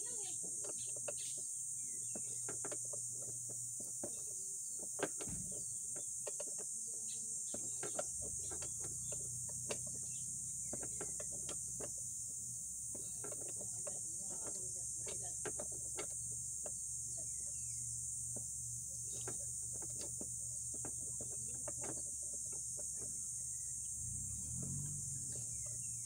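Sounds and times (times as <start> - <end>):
clicks and knocks of hands working: 0.1 - 17.5, 18.3 - 23.4.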